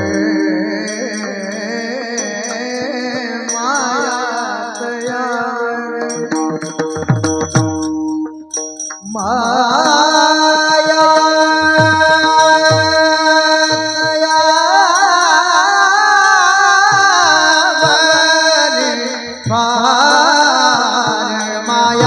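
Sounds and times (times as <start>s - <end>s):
high singing voice: 0.0s - 22.0s.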